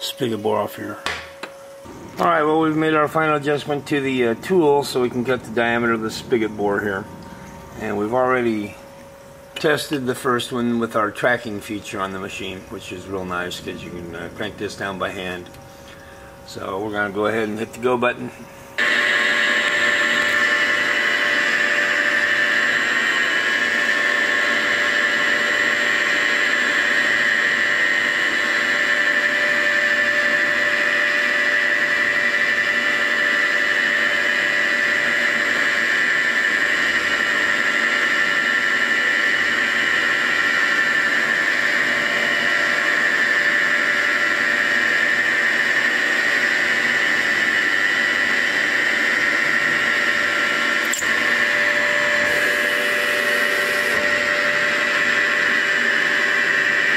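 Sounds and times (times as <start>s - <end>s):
milling machine spindle whine: 0.0s - 56.9s.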